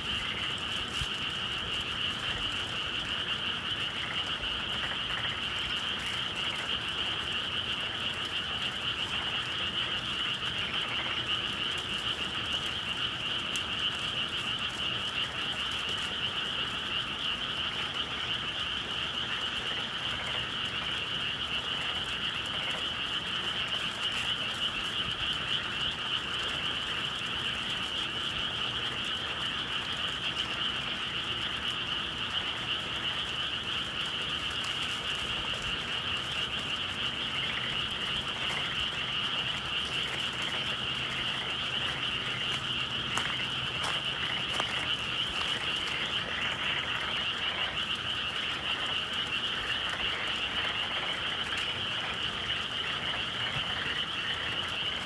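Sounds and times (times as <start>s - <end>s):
chorus of frogs calling: 0.0s - 55.0s.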